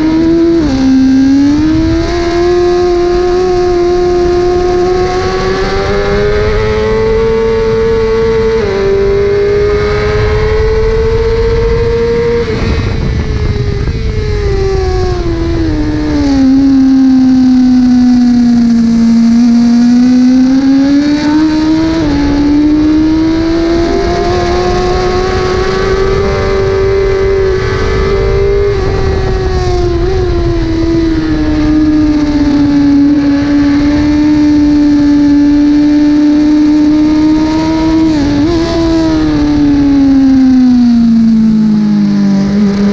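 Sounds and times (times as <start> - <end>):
motorcycle engine revving high: 0.0 - 42.9.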